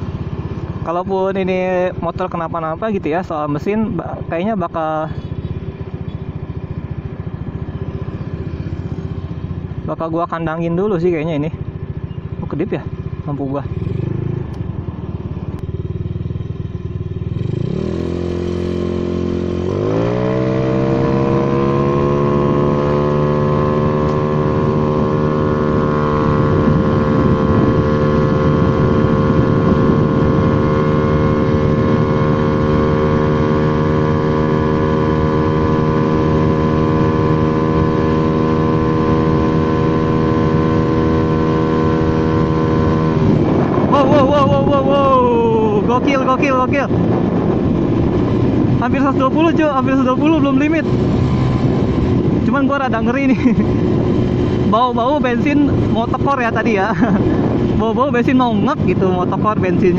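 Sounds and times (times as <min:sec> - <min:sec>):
scooter engine at full throttle: 0:00.0 - 0:59.9.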